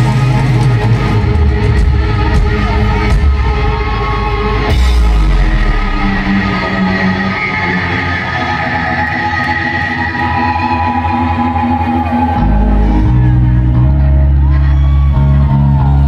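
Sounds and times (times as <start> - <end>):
heavy bass and drums: 0.0 - 16.0
heavy rock band playing live: 0.0 - 16.0.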